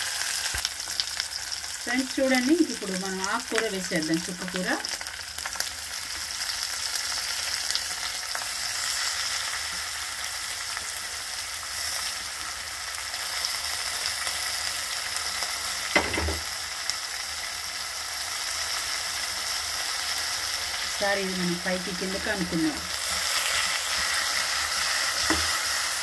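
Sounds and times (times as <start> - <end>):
prawns and onions frying in oil: 0.0 - 26.0.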